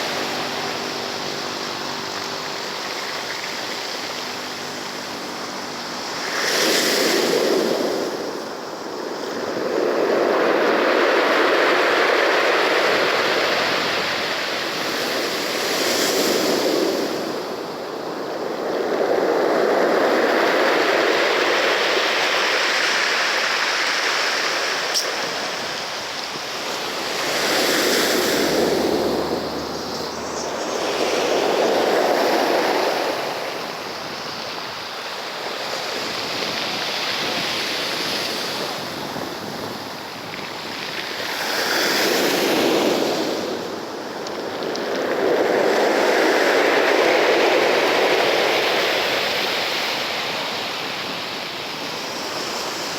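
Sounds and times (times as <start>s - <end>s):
sea waves breaking: 0.0s - 52.9s.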